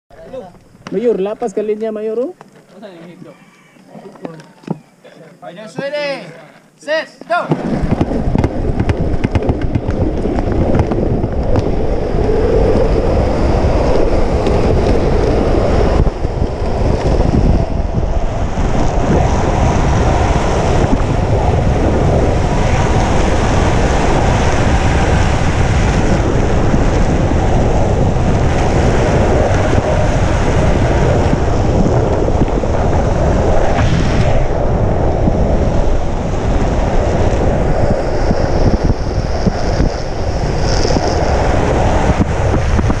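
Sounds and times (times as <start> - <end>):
skateboard wheels on concrete: 7.0 - 43.0
wind buffeting microphone: 7.5 - 43.0.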